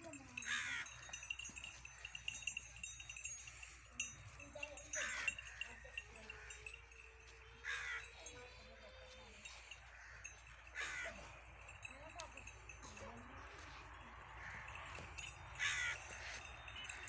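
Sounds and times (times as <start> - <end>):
cattle calling: 0.0 - 17.0
faint clinking: 0.0 - 17.0.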